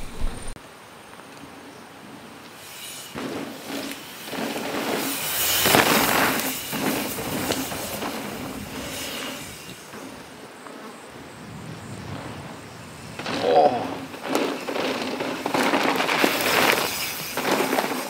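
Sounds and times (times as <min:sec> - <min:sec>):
bike tyre noise and rattle: 0:00.0 - 0:18.0
mountain bike passing: 0:00.0 - 0:18.0.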